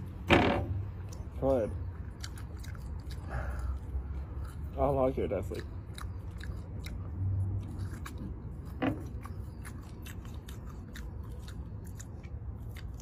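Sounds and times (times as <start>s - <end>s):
chewing crunchy fried chicken: 1.0s - 13.0s.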